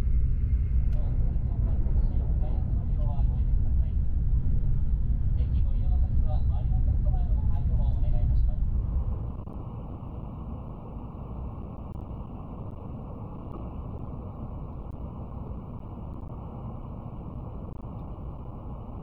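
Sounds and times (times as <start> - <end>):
train rumble inside cabin: 0.0 - 19.0.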